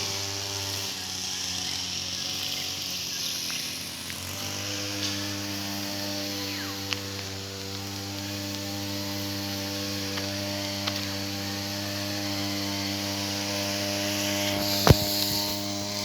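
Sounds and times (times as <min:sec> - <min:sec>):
brush cutter engine running: 0:00.0 - 0:16.0.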